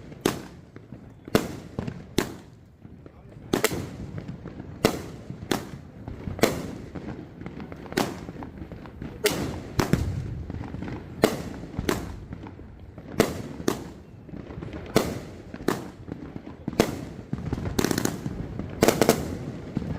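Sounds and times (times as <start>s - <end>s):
firework bangs: 0.0s - 19.9s
firework crackling: 0.0s - 19.9s.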